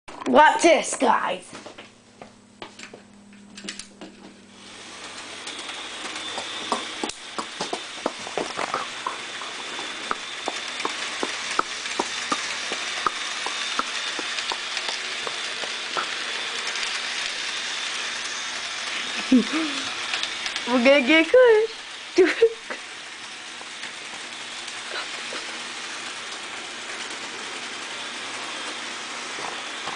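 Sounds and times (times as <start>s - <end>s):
model train motor whine: 3.6s - 29.9s
wheels clicking on rails: 3.6s - 29.9s.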